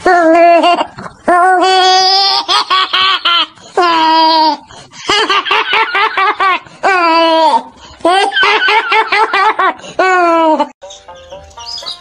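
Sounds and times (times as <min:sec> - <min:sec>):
high-pitched human laughter: 0:00.0 - 0:11.4.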